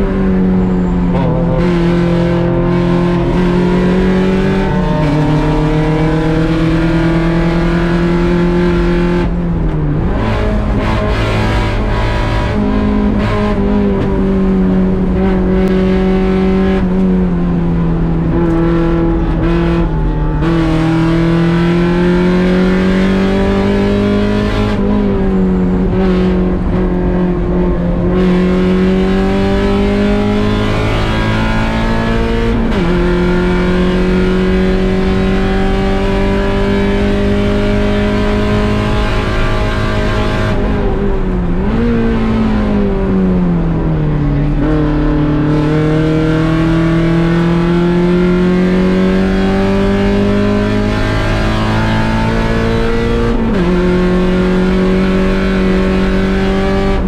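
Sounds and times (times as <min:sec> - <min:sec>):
car engine revving high: 0:00.0 - 0:57.0.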